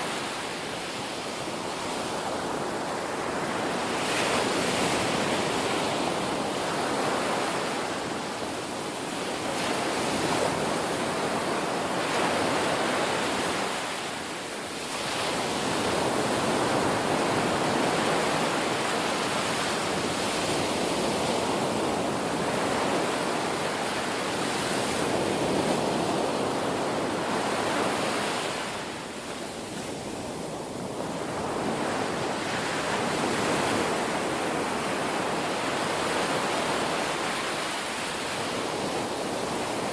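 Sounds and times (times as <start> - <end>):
surf washing on shore: 0.0 - 39.9.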